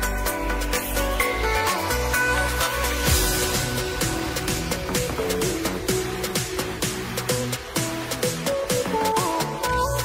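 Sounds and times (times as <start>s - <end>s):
electronic music with pulsing bass: 0.0s - 10.0s.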